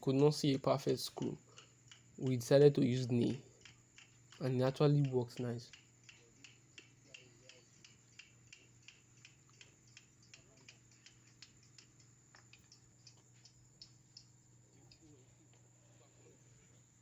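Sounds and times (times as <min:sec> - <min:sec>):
steady low hum: 0:00.0 - 0:17.0
faint regular ticking: 0:00.5 - 0:15.7.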